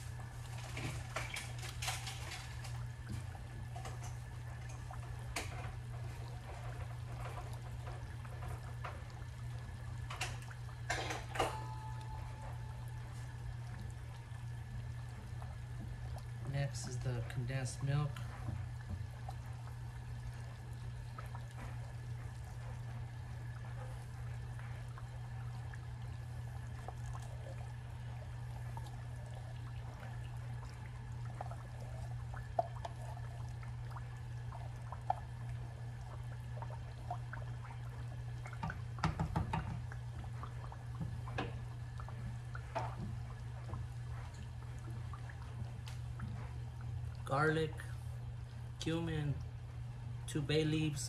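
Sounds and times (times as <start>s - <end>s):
steady low hum: 0.0s - 51.0s
milk dripping and trickling: 0.1s - 10.9s, 11.7s - 50.4s.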